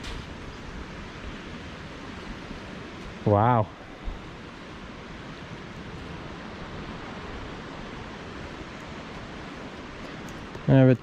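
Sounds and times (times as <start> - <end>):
floodwater rushing down creek: 0.0 - 11.0.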